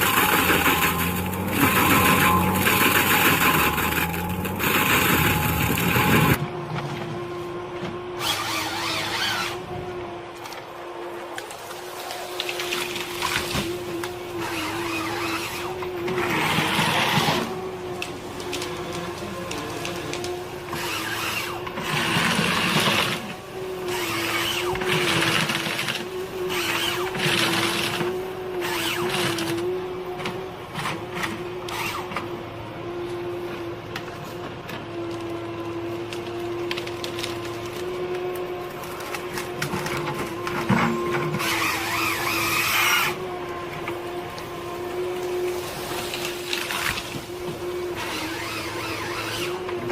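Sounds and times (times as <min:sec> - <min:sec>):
heavy machine hydraulic whine: 0:00.0 - 0:32.5, 0:39.6 - 0:49.9.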